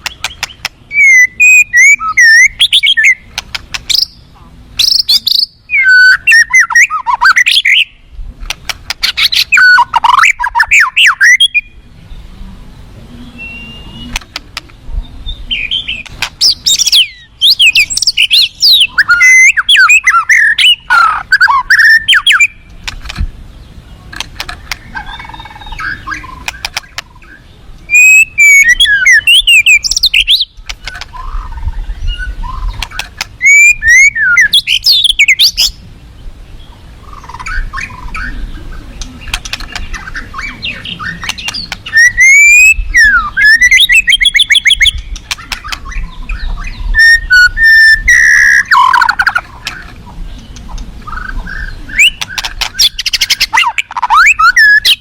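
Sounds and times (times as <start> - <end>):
bird singing whistled trills: 0.0 - 8.0, 9.0 - 12.2, 13.2 - 14.2, 15.0 - 22.7, 24.8 - 35.8, 36.6 - 49.8, 50.4 - 55.0.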